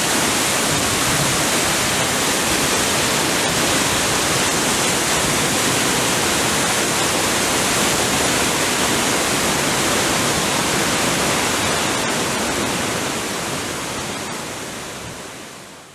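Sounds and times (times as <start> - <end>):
waterfall roaring: 0.0 - 15.9.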